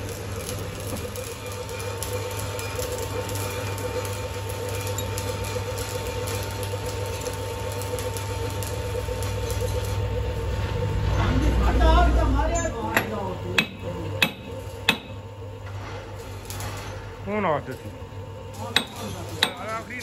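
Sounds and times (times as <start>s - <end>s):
workshop machinery humming: 0.0s - 20.0s.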